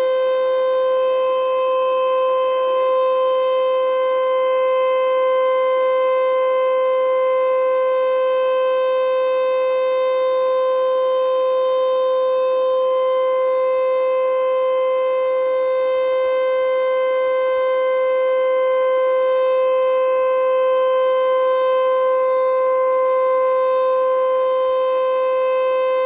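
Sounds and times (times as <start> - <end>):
warning siren steady tone: 0.0 - 26.0.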